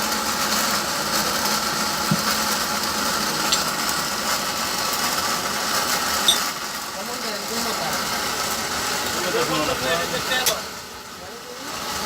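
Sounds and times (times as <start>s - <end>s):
workshop machinery running: 0.0s - 12.0s.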